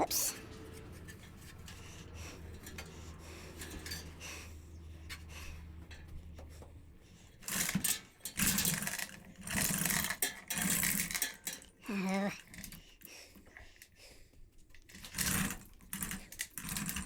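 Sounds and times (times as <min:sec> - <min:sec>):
parts rubbing and scraping: 0:00.0 - 0:12.8, 0:14.8 - 0:17.0.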